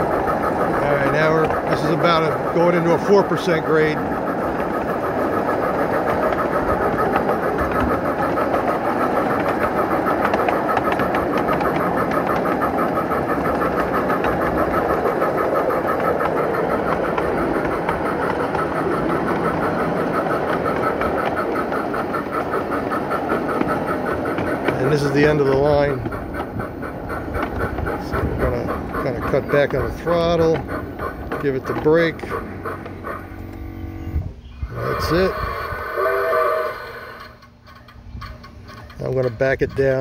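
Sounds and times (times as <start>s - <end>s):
steam exhaust chuffing: 0.0s - 40.0s
wheels on rails: 0.0s - 40.0s.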